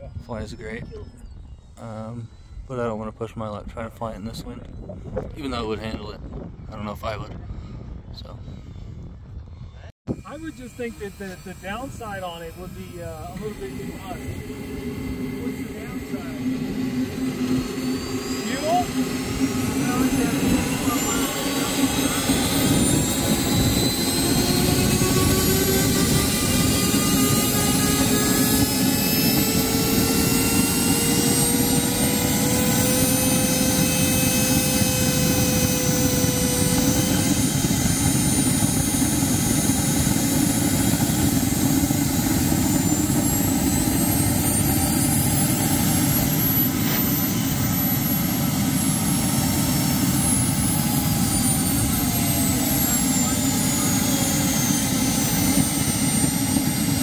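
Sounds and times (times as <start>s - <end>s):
radio-controlled aircraft whine: 0.0s - 6.2s, 9.7s - 57.0s
wind noise on microphone: 0.0s - 57.0s.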